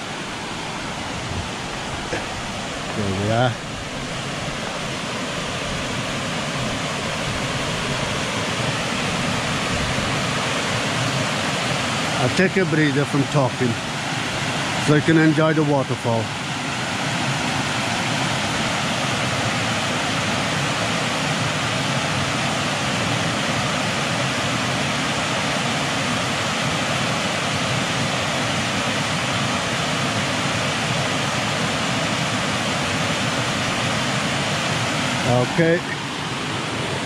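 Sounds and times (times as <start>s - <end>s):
small waterfall rushing: 0.0s - 37.0s.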